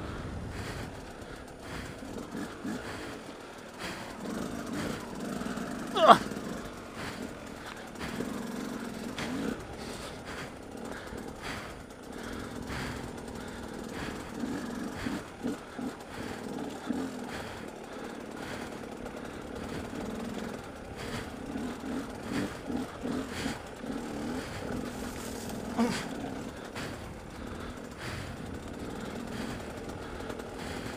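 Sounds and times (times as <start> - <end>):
dirt bike engine: 0.0 - 30.9.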